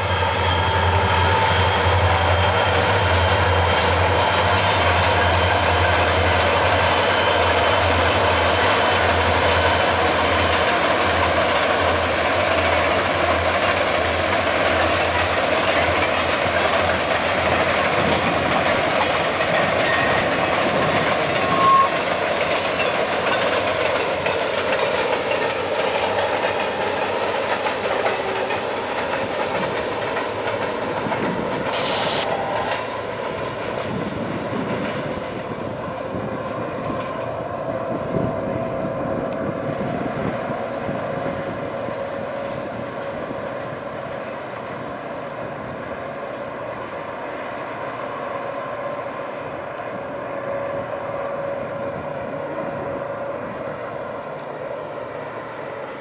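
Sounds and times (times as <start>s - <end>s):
freight train rolling on rails: 0.0s - 56.0s.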